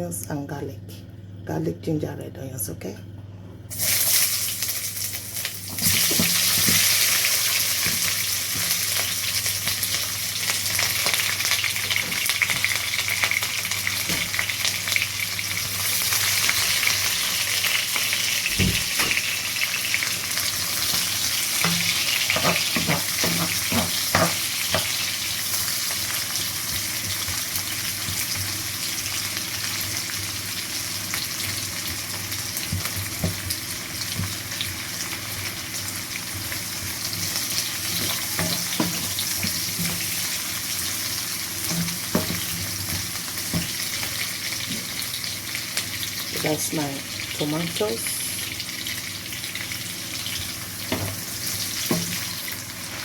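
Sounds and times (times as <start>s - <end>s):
onions sizzling in oil: 3.7s - 53.0s.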